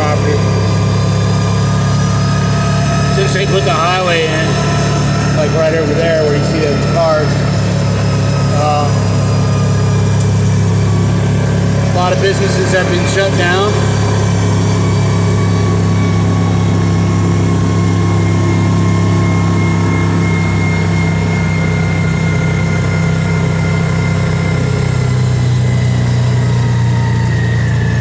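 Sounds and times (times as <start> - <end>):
faint high whine: 0.0 - 28.0
vehicle engine running: 0.0 - 28.0.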